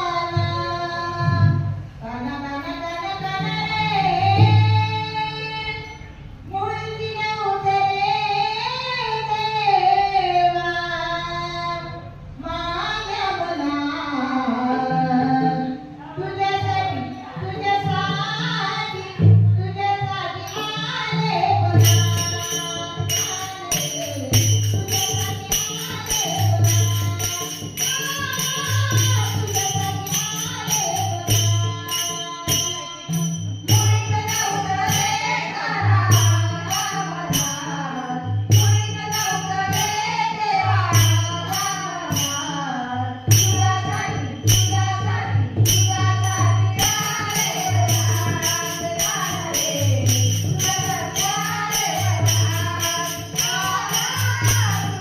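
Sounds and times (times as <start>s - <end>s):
jingling percussion: 2.8s - 9.4s, 16.0s - 55.0s.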